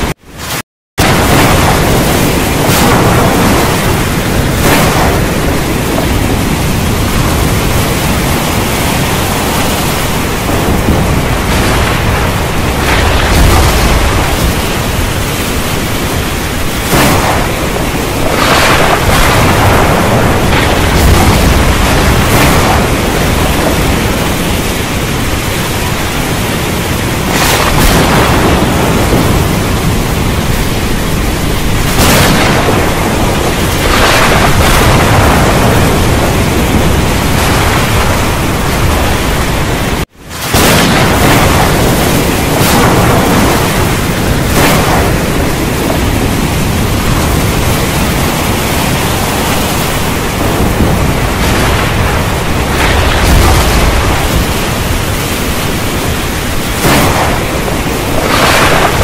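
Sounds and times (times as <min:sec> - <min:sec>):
heavy rain falling: 0:00.0 - 0:59.0
thunder rumbling and cracking: 0:00.0 - 0:59.0.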